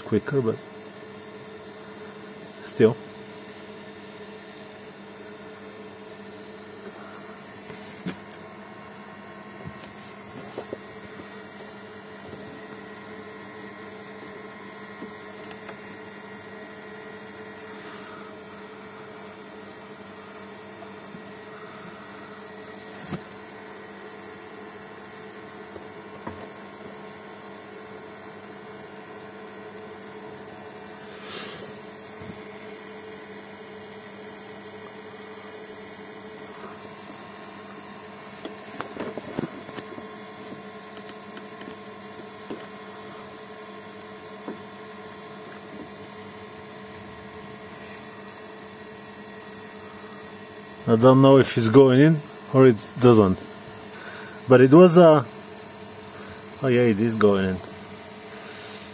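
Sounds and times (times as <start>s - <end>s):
vacuum pump humming: 0.0s - 58.9s.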